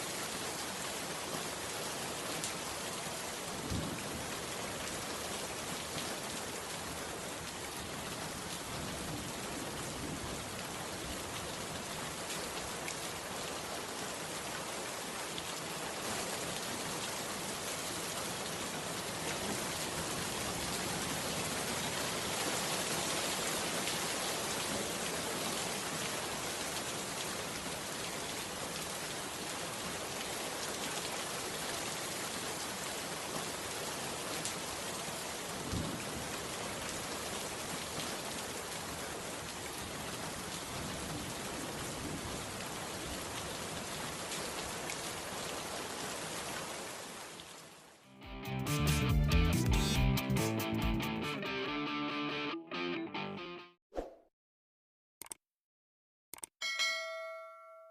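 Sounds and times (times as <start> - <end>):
steady rain hiss: 0.0 - 48.0.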